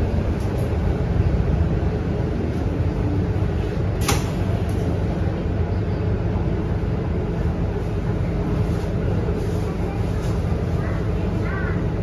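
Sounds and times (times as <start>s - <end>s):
bus diesel engine humming: 0.0s - 12.0s
road noise: 0.0s - 12.0s.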